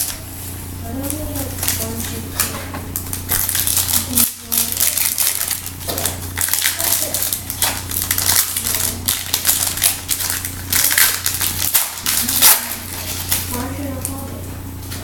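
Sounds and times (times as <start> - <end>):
foil wrapper crinkling: 0.0 - 14.2.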